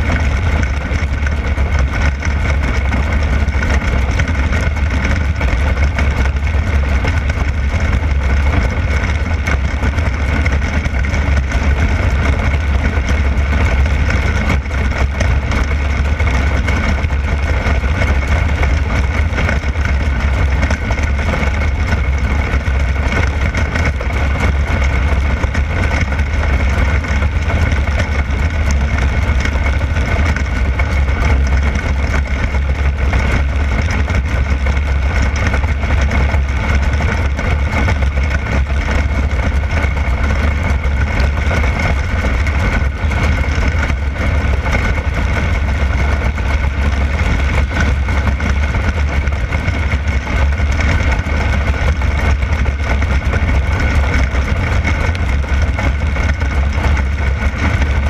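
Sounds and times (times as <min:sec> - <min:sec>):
race car engine droning: 0:00.0 - 0:58.0.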